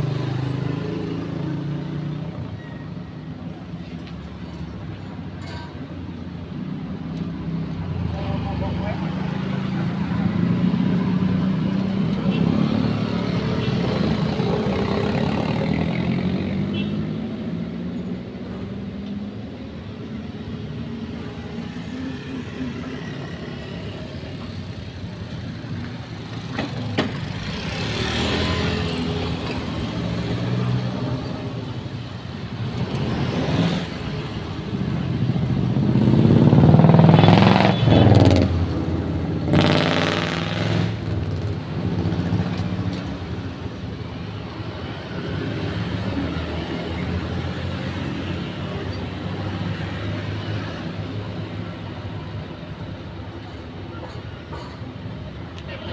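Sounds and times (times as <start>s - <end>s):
cars passing: 0.0s - 5.4s, 6.0s - 55.9s
motorcycles passing: 6.3s - 53.8s.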